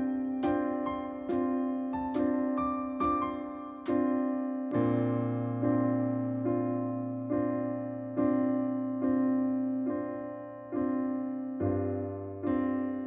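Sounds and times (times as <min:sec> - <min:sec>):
slow electric piano chords: 0:00.0 - 0:13.0.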